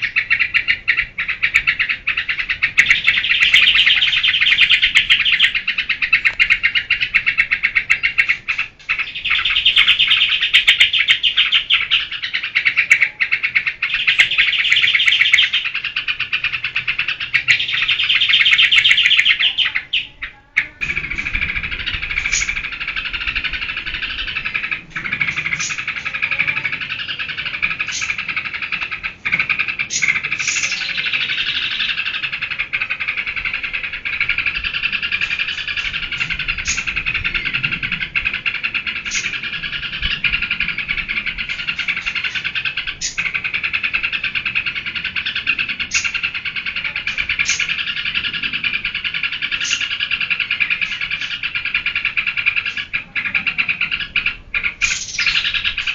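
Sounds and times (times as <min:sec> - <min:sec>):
bulbul singing in rapid chatter: 0:00.0 - 0:55.9.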